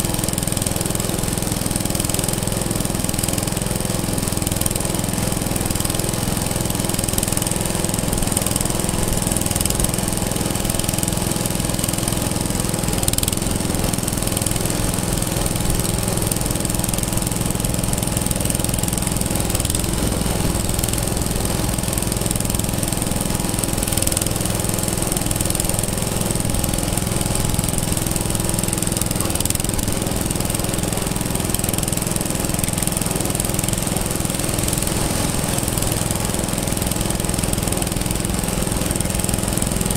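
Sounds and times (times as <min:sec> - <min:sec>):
old engine running: 0:00.0 - 0:39.9.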